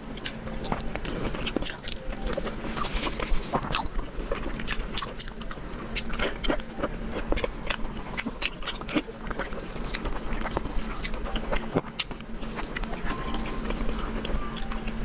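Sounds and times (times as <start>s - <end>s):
person biting and chewing: 0.1s - 15.0s.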